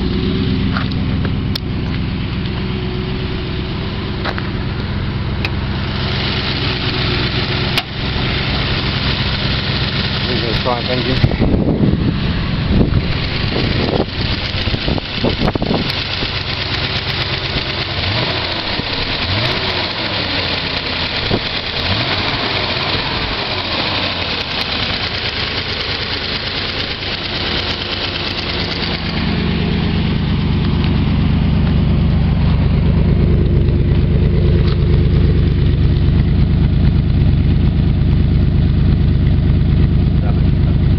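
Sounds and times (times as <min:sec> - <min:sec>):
car engine idling: 0:00.0 - 0:40.9
deep exhaust note: 0:00.0 - 0:40.9.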